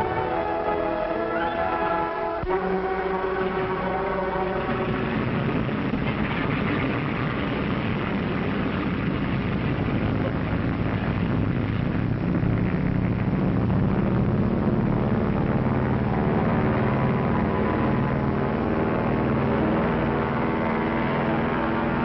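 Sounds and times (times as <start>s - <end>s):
propeller engines droning: 0.0s - 22.0s.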